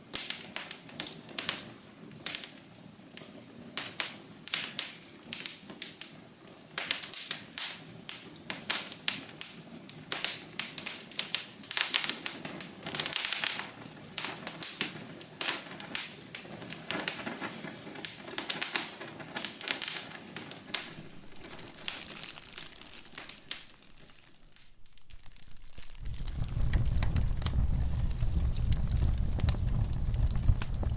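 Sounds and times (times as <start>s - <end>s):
soft steady hiss: 0.0s - 30.9s
wood fire crackling: 0.0s - 30.9s.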